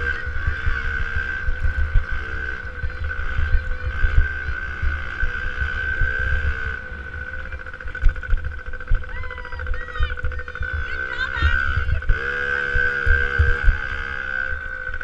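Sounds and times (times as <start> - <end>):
wind buffeting microphone: 0.0 - 14.2
motorbike engine at high revs: 0.0 - 15.0.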